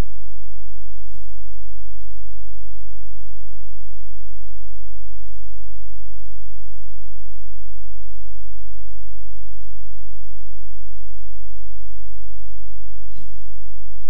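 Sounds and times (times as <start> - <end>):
low mains hum: 0.0 - 14.0.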